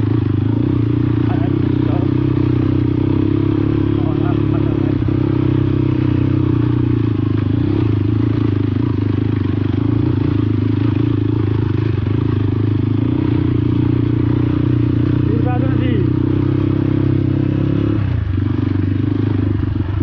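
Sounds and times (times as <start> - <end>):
motorcycle engine running: 0.0 - 20.0
rattle over rough track: 0.0 - 20.0.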